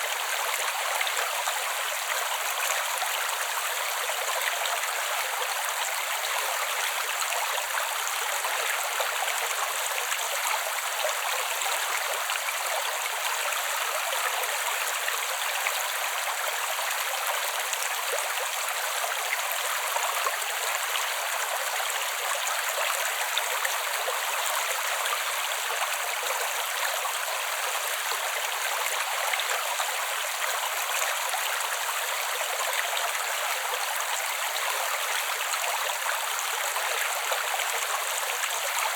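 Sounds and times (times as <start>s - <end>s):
creek water flowing over rocks: 0.0s - 38.9s.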